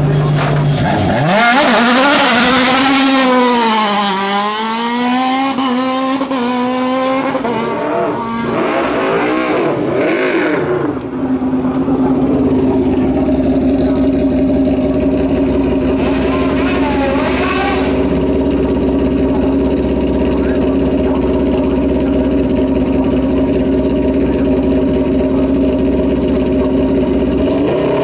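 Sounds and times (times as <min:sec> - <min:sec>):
race car engine at hard throttle: 0:00.0 - 0:28.0.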